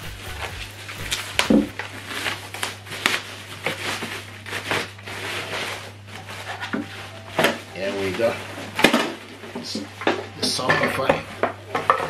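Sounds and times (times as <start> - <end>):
plastic packaging crinkling: 0.2 - 11.1.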